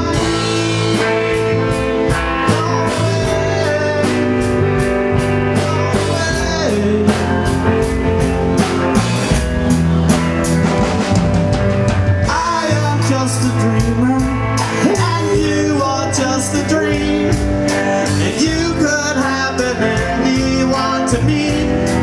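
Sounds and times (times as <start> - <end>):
drum kit beat: 0.0 - 22.0
rock band playing: 0.0 - 22.0.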